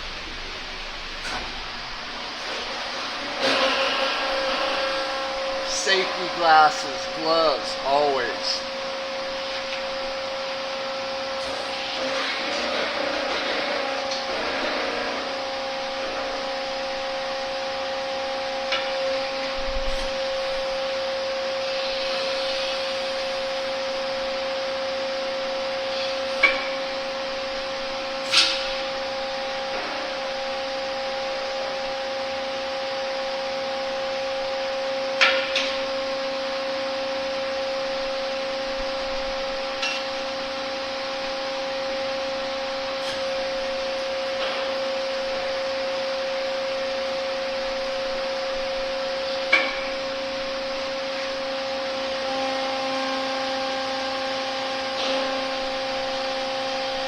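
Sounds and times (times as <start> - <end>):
hydraulic pump whine: 0.0 - 57.0.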